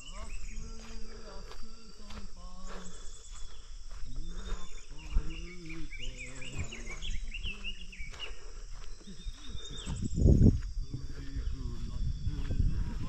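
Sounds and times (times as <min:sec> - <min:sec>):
distant voices: 0:00.0 - 0:13.0
insects trilling: 0:00.0 - 0:13.0
small birds chirping: 0:00.0 - 0:13.0.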